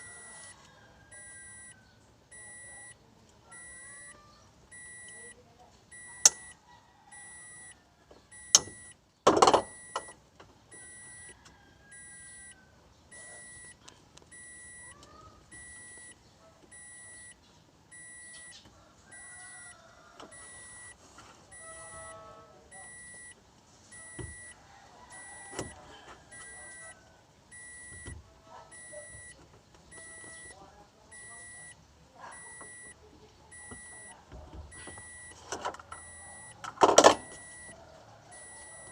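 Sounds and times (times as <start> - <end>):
electronic beep: 0.0 - 6.6, 7.2 - 10.2, 10.8 - 23.3, 23.9 - 24.6, 25.2 - 31.8, 32.4 - 38.9.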